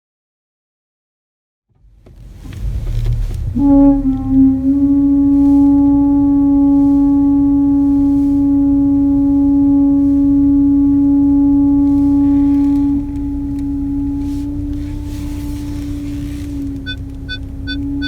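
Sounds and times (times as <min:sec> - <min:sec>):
low rumble: 0:01.7 - 0:18.0
loud steady droning tone: 0:02.4 - 0:18.0.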